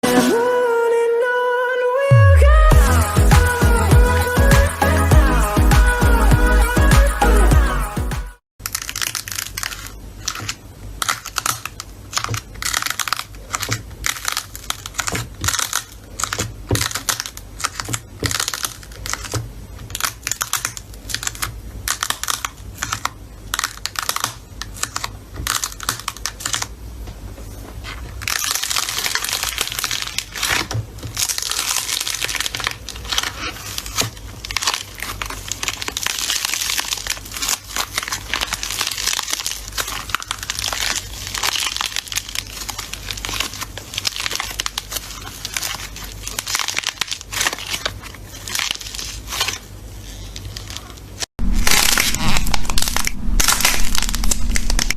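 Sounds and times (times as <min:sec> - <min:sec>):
slime popping and crackling: 0:08.6 - 0:26.8, 0:28.1 - 0:54.9.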